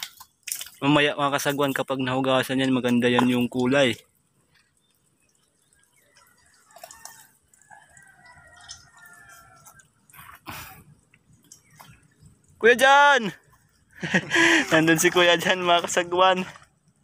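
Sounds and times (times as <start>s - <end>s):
wet mud squelching: 0.0s - 17.0s.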